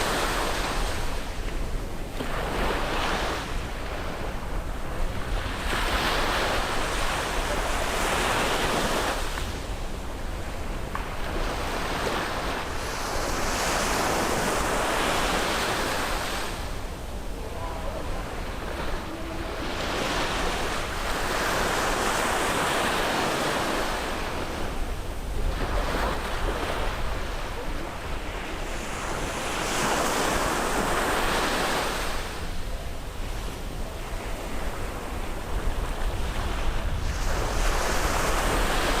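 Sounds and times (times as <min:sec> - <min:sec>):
ocean waves breaking on beach: 0:00.0 - 0:39.0
wind rumble on microphone: 0:00.0 - 0:39.0.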